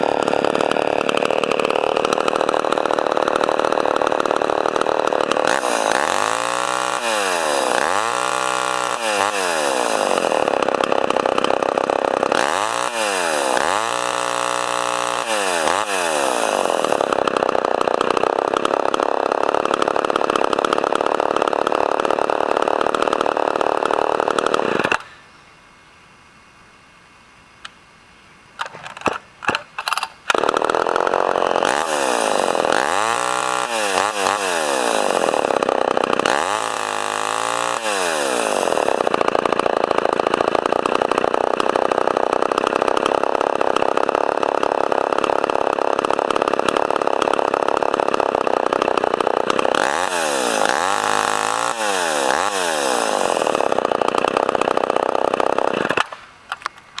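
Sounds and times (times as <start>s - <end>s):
chainsaw revving: 0.0s - 25.2s, 28.6s - 57.0s
chainsaw starting pops: 0.0s - 25.2s, 28.6s - 57.0s.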